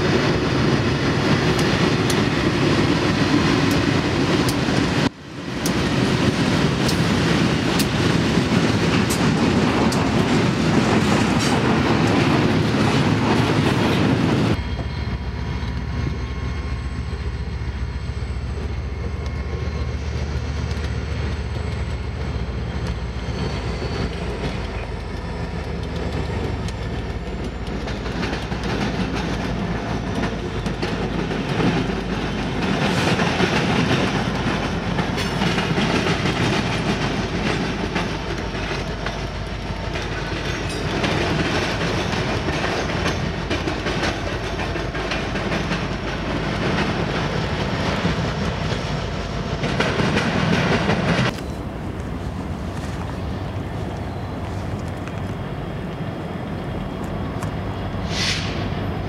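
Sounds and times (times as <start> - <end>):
train wheels clicking over rail joints: 0.0 - 16.2, 18.5 - 58.9
diesel locomotive engines rumbling: 0.0 - 59.0.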